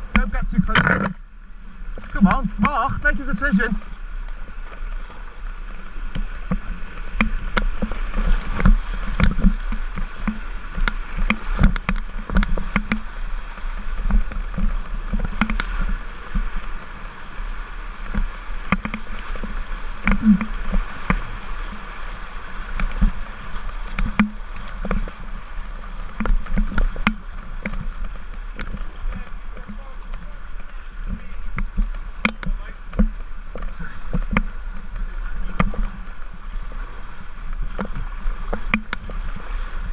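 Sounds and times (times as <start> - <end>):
paddle splashes: 0.0 - 39.9
water slapping against hull: 0.0 - 39.9
whitewater rapids rushing: 1.6 - 39.9.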